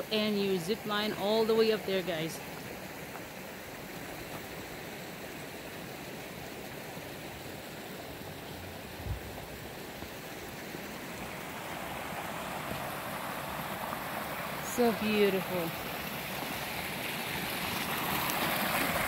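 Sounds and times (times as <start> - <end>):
stream flowing: 0.0 - 19.0.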